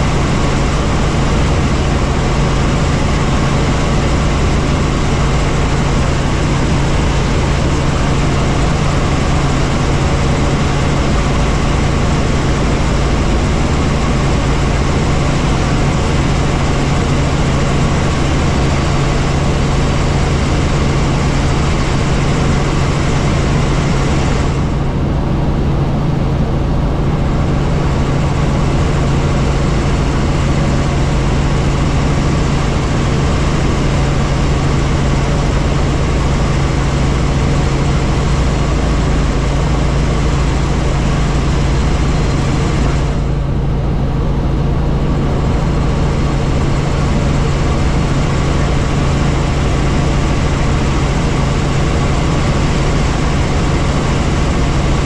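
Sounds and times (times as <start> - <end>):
helicopter turbine and rotor drone: 0.0 - 55.0.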